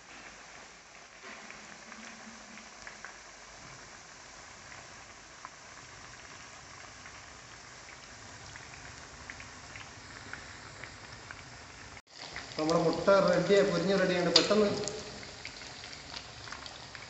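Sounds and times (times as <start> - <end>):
deep-frying sizzle and crackles: 0.0 - 17.0.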